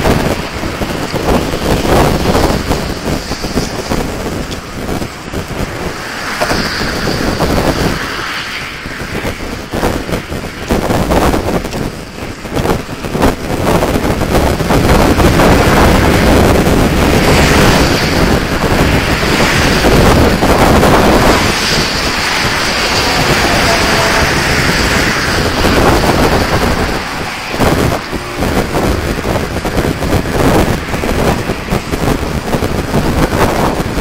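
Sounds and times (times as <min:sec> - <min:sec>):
road traffic rushing past: 0:00.0 - 0:34.0
wind buffeting microphone: 0:00.0 - 0:34.0.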